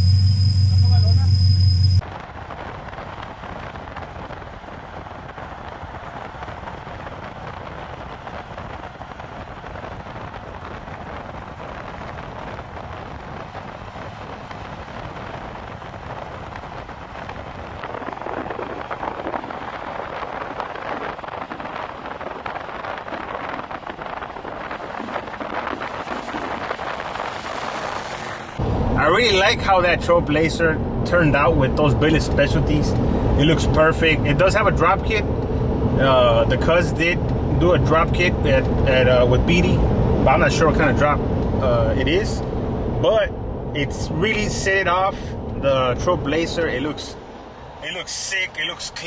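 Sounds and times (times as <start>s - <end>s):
tyre noise at highway speed: 0.0s - 49.0s
wind rushing: 0.0s - 49.0s.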